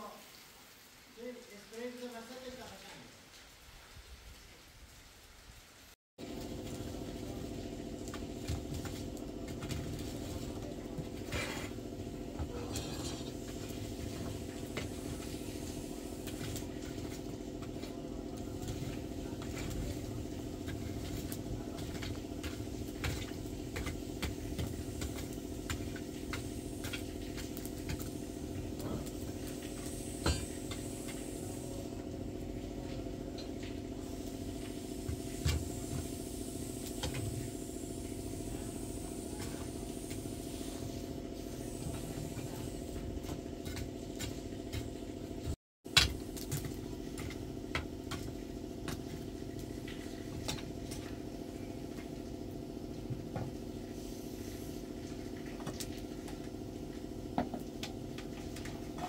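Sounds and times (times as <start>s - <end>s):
wood fire crackling: 0.0s - 53.9s
steady mechanical hum: 5.5s - 59.0s.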